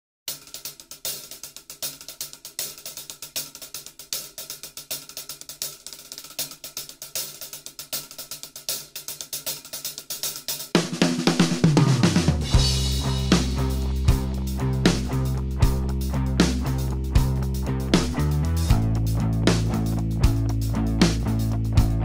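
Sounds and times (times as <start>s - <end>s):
fast hi-hat and cymbal rhythm: 0.3s - 22.0s.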